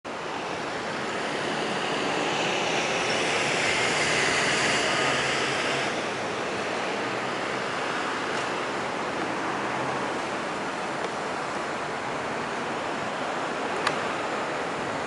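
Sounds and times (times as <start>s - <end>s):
distant city traffic: 0.1s - 15.0s.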